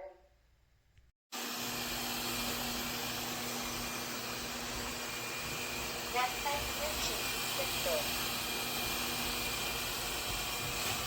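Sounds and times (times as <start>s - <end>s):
vacuum suction motor rushing: 1.4s - 11.0s.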